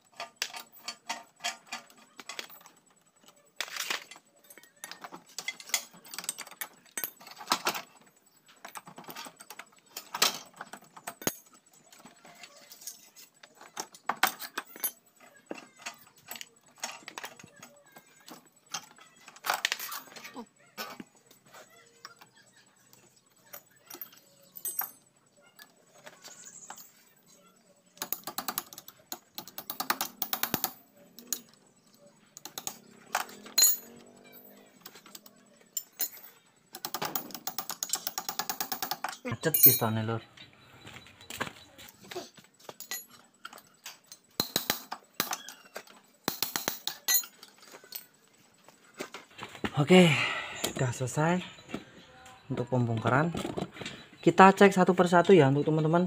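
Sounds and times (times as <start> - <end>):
faint metal clinks: 0.0 - 40.2, 41.6 - 49.4.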